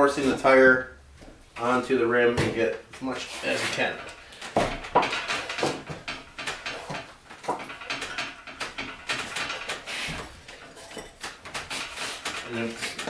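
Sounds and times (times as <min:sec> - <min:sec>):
rubber tire rubbing and creaking on rim: 0:00.0 - 0:13.0.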